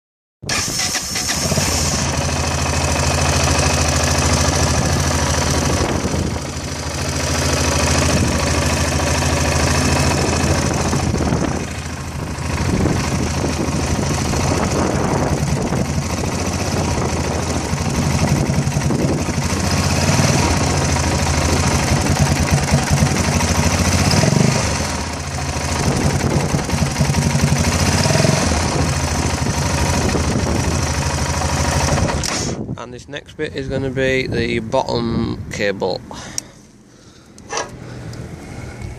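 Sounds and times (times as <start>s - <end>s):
motorcycle engine running at raised revs: 1.1s - 32.6s.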